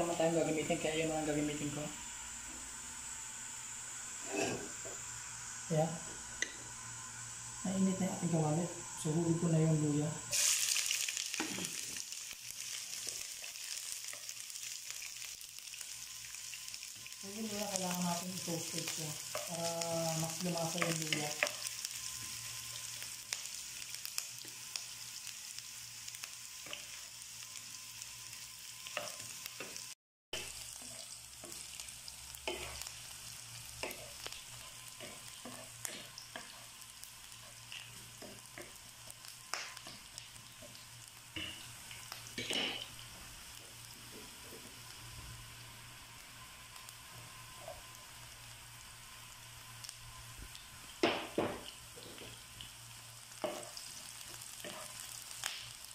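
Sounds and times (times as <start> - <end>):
ginger sizzling in hot oil: 0.0 - 55.9.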